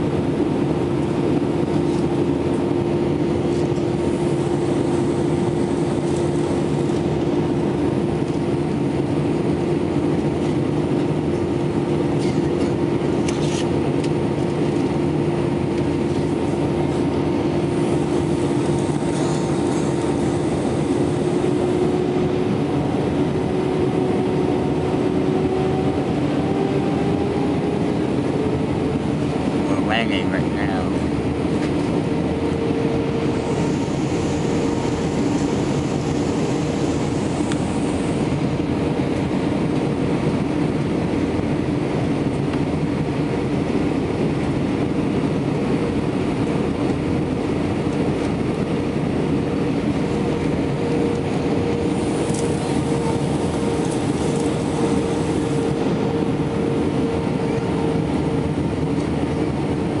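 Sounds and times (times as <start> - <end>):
constant hum: 0.0 - 60.0
jet engines droning: 0.0 - 60.0
rushing air: 0.0 - 60.0.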